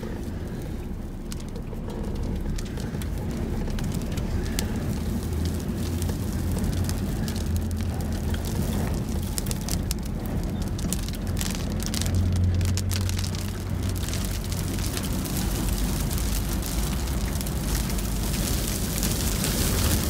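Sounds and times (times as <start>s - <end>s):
grit ticking on car windscreen: 0.0s - 20.0s
low rumble of wind: 0.0s - 20.0s.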